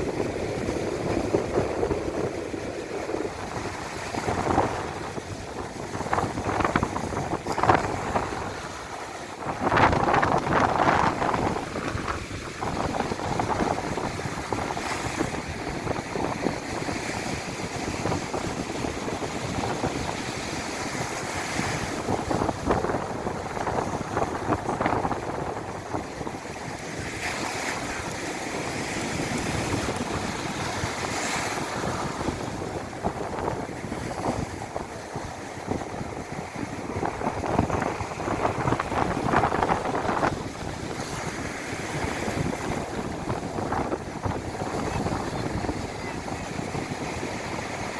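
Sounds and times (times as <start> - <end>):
constant rushing noise: 0.0 - 47.9
waves breaking: 0.0 - 47.9
wind buffeting microphone: 0.0 - 47.9.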